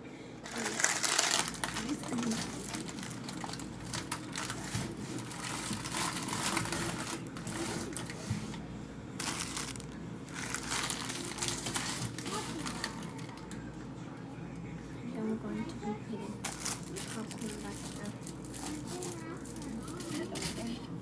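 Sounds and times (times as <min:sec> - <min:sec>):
food packaging crinkling: 0:00.4 - 0:08.6, 0:09.2 - 0:13.6, 0:16.4 - 0:20.8.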